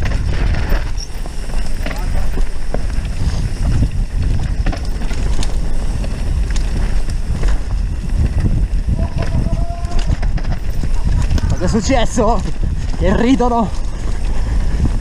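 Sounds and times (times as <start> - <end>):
bike knocks and rattles: 0.0 - 15.0
bike tyres rumbling over ground: 0.0 - 15.0
wind buffeting microphone: 0.0 - 15.0.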